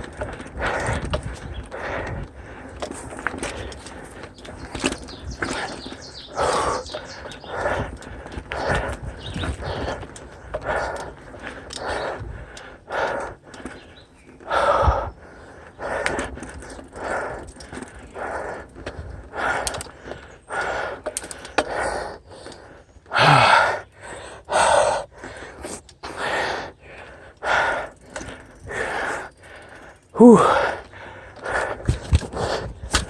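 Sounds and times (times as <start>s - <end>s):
person panting heavily: 0.2s - 4.4s, 5.4s - 33.0s.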